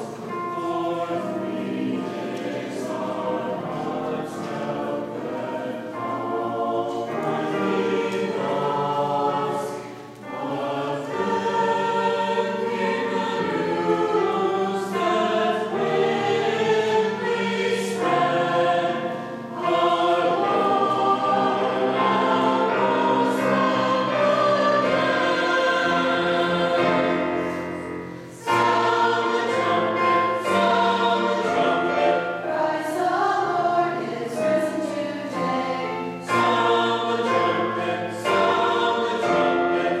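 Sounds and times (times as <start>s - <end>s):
choir and congregation singing hymn: 0.0s - 40.0s.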